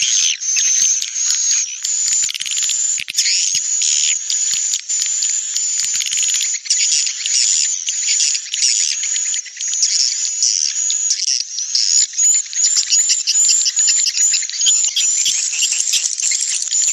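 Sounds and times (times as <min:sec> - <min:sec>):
swiftlets chirping and twittering: 0:00.0 - 0:16.9.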